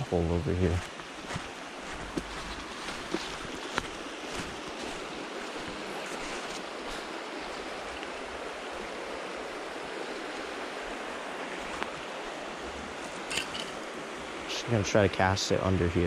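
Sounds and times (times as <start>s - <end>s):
creek water running over riffles: 0.0s - 16.0s.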